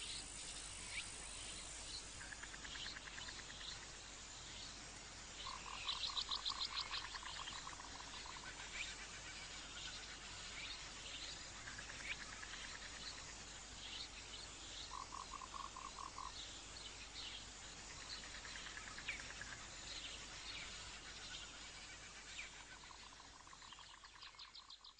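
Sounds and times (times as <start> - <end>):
frogs calling: 0.0 - 4.3, 5.2 - 16.5, 17.4 - 24.9
insects chirping: 0.0 - 24.9.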